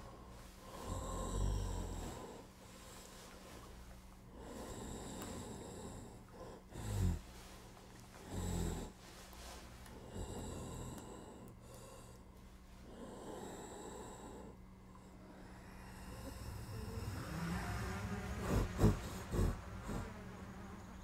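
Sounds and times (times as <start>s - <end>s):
faint steady hum: 0.0s - 21.0s
person breathing heavily: 0.0s - 21.0s.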